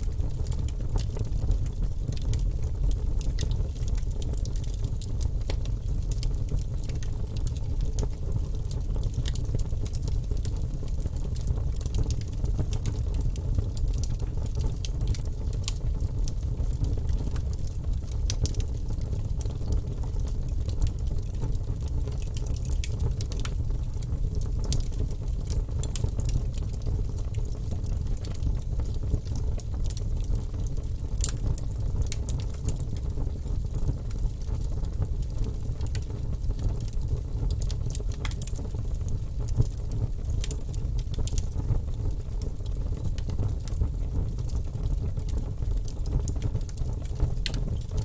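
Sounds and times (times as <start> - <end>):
fireplace fire crackling: 0.0 - 48.0.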